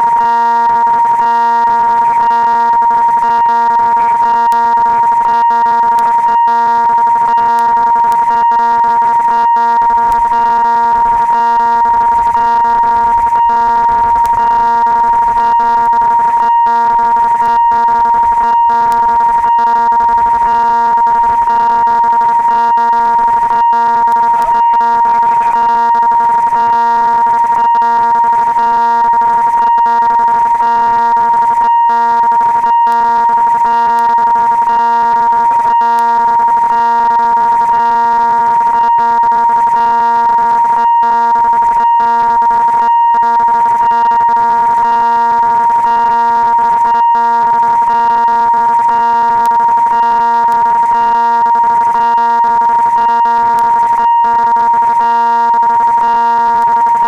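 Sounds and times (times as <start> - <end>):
level crossing warning tone: 0.0 - 57.0.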